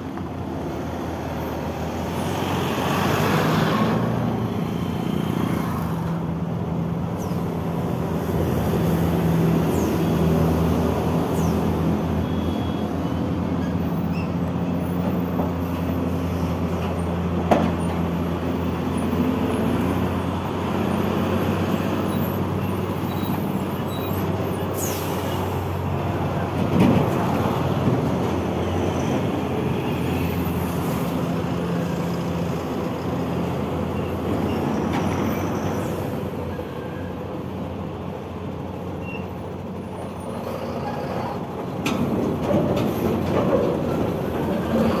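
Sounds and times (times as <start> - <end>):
diesel trucks passing: 0.0 - 45.0.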